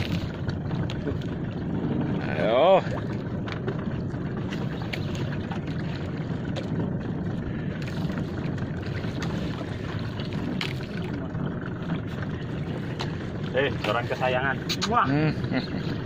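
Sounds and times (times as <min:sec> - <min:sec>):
boat engine rumble and hiss: 0:00.0 - 0:16.0.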